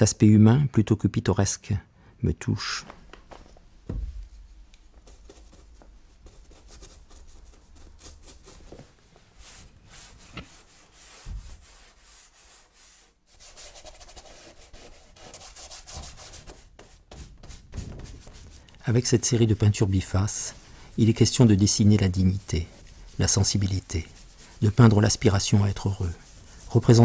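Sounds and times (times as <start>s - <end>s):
paintbrush scrubbing on paper: 5.0s - 27.0s.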